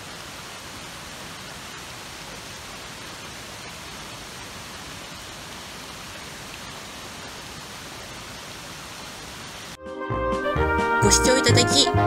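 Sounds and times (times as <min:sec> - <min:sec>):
stream running over gravel: 0:00.0 - 0:09.8.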